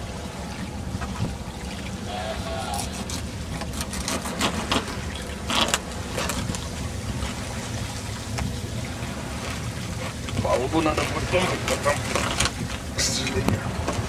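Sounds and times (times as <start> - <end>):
water on a sailboat: 0.0 - 14.0.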